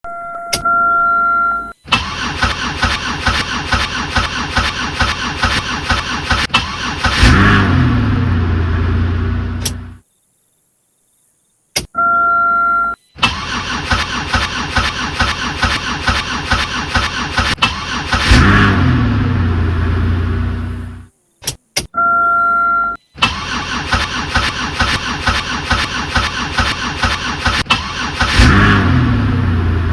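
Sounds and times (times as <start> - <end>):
car engine cranking and starting: 0.3 - 10.0, 13.2 - 21.1, 23.2 - 29.9.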